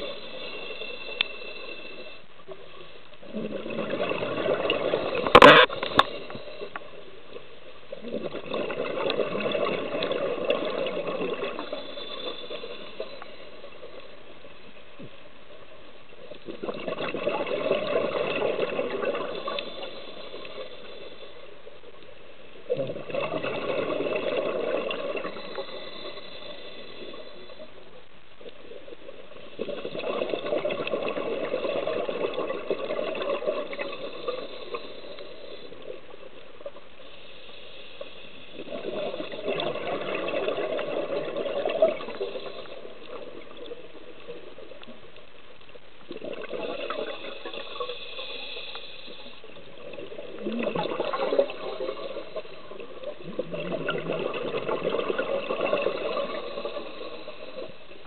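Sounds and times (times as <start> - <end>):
underwater breath bubbling: 0.0 - 7.0, 7.9 - 14.2, 16.3 - 21.8, 22.5 - 28.0, 29.1 - 44.9, 46.1 - 58.0.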